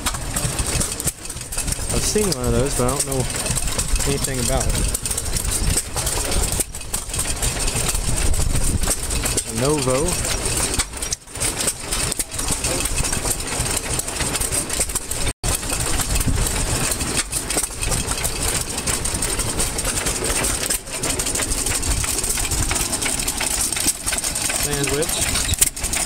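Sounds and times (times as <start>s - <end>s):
stationary engines chugging: 0.0s - 26.0s.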